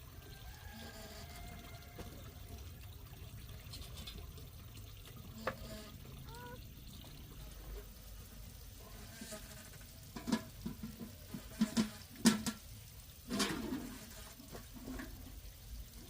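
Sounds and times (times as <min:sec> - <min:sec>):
water trickling and pouring: 0:00.0 - 0:16.0.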